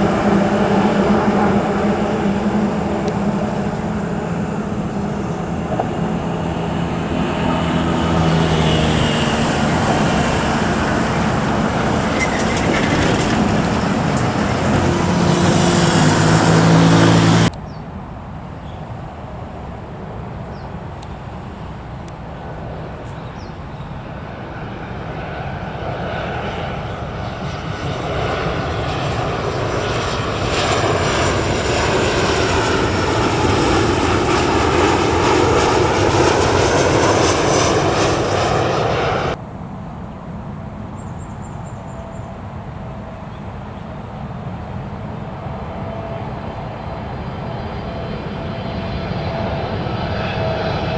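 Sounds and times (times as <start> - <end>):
loud jet engine noise: 0.0 - 50.9
quieter jet engine noise: 0.0 - 50.9.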